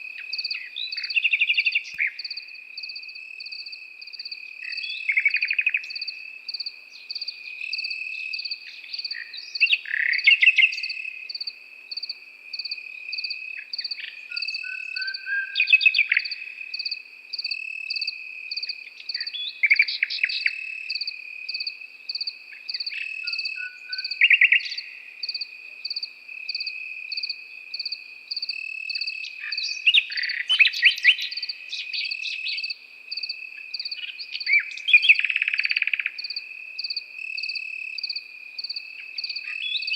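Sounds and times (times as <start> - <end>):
crickets trilling: 0.0 - 39.9
insect chirping in a pulse: 0.0 - 39.9
nightingale singing: 0.0 - 39.9.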